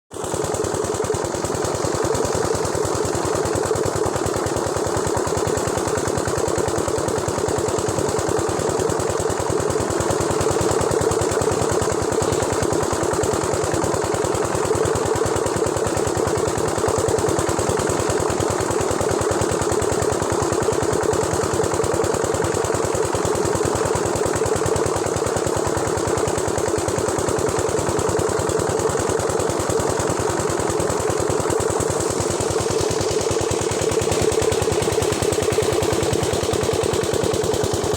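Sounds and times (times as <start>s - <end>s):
engine running with fast pulsing: 0.1s - 37.9s.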